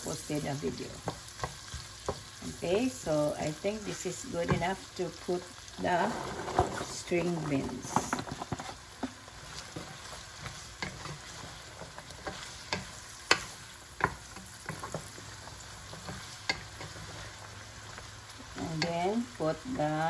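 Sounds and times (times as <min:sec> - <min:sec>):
beans sizzling in hot oil: 0:00.0 - 0:20.0.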